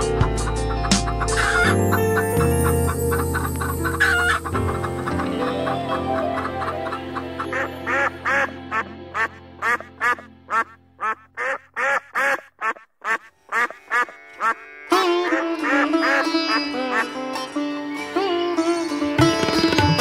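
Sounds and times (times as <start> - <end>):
plucked-string melody: 0.0 - 11.0, 13.8 - 20.0
ducks calling: 0.0 - 17.2.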